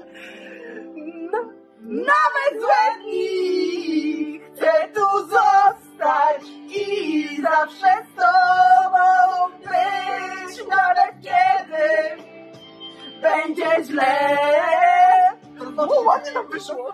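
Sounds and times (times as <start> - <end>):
two women singing: 1.2 - 12.3, 13.1 - 15.7.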